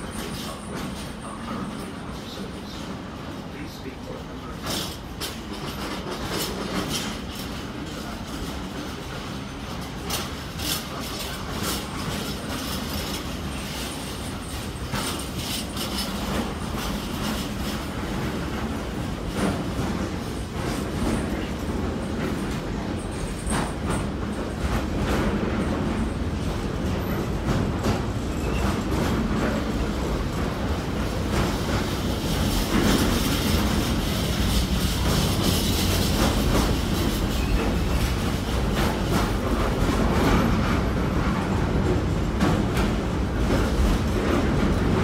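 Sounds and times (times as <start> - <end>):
freight train passing: 0.0 - 45.0
train wheels clicking: 4.1 - 45.0.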